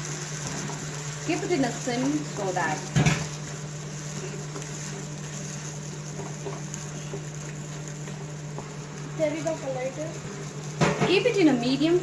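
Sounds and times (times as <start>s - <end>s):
onion and tomato sizzling: 0.0s - 12.0s.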